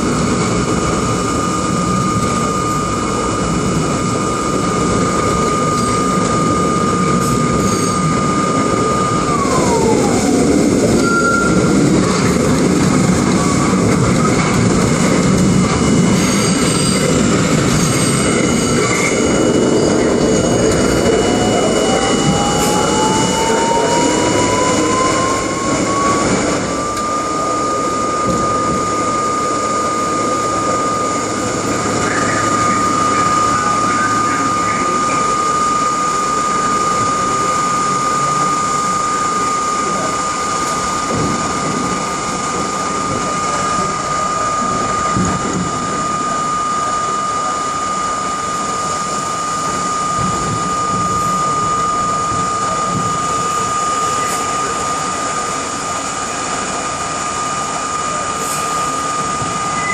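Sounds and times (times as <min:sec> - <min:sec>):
subway train motor whine: 0:00.0 - 0:59.9
wheels rumbling on track: 0:00.0 - 0:59.9.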